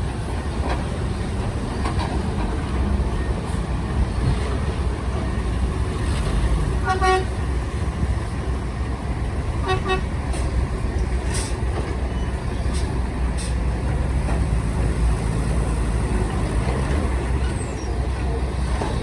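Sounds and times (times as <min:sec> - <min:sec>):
diesel machinery rumbling: 0:00.0 - 0:19.0.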